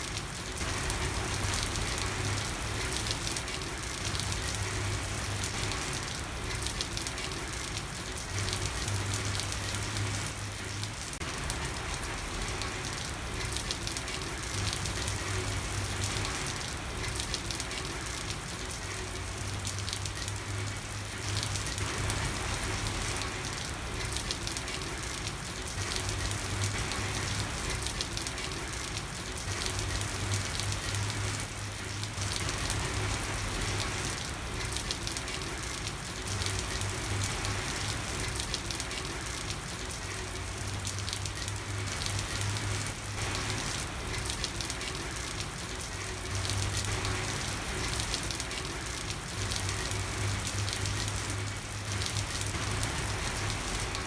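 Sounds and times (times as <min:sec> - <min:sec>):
rain falling on a street: 0:00.0 - 0:54.0.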